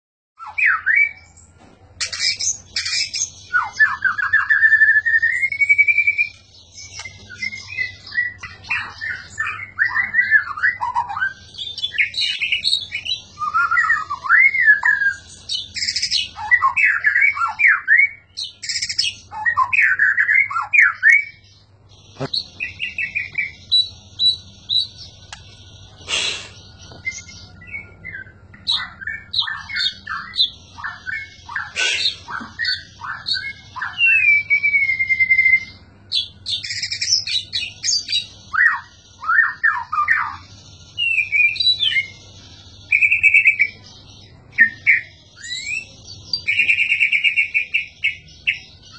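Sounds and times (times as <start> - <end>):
bird singing whistled phrases: 0.4 - 1.4, 2.0 - 21.4, 26.1 - 42.2, 42.9 - 43.8, 44.5 - 48.7.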